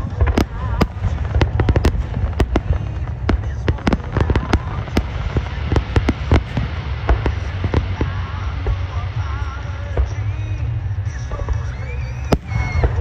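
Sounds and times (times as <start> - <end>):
fireworks bursting with sharp bangs: 0.0 - 13.0
low rumble: 0.0 - 13.0.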